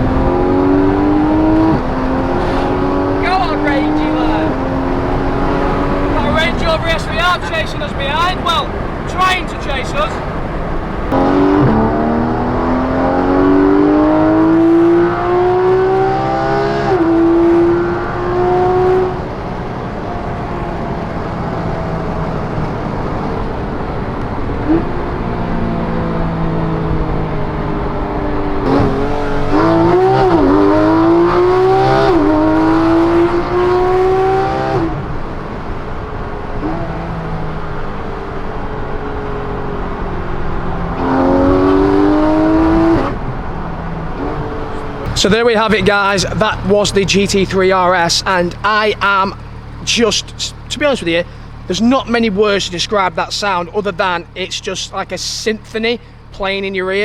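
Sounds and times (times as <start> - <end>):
car engine revving: 0.0 - 57.0
gear changes: 0.0 - 57.0.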